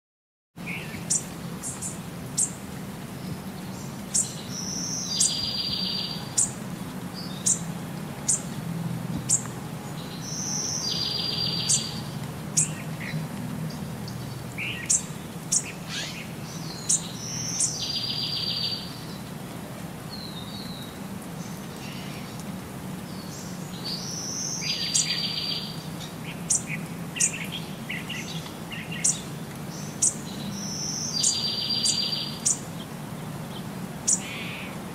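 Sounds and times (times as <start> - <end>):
songbirds chirping: 0.6 - 34.9.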